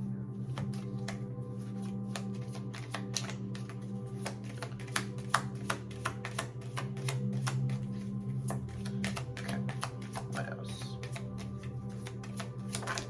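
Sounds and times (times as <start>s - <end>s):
soft background music: 0.0s - 13.0s
cards being shuffled: 0.5s - 13.0s.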